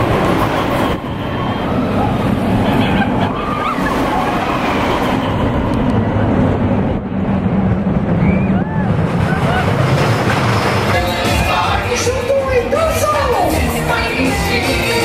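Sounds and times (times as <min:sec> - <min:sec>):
roller coaster rumbling and clattering: 0:00.0 - 0:15.0.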